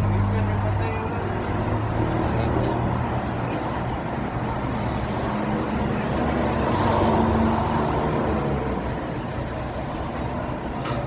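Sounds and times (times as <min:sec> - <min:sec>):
motor vehicles rumbling: 0:00.0 - 0:11.0.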